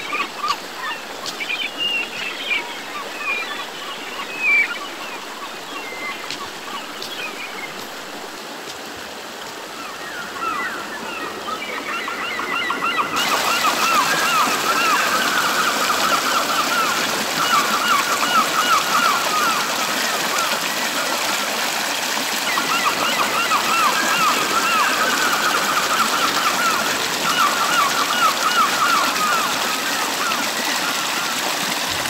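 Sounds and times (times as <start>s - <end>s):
river rushing over stones: 0.0s - 11.9s, 12.8s - 32.0s.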